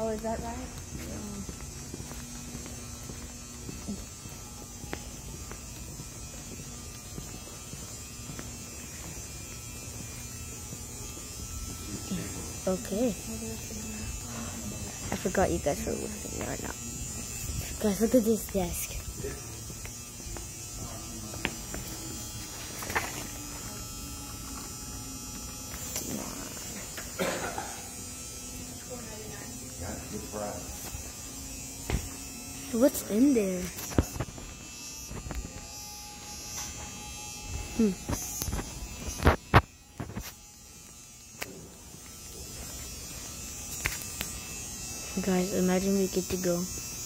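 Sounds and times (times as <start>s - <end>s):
indoor hum and buzz: 0.0s - 47.0s.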